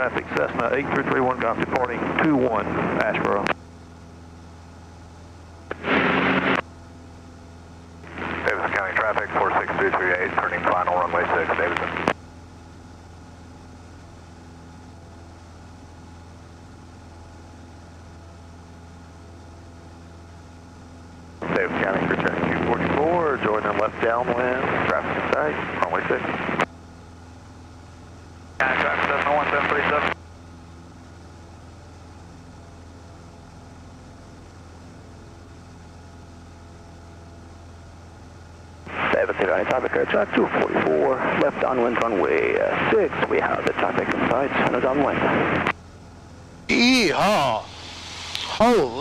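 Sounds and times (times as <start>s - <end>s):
propeller plane engine drone: 0.0s - 49.0s.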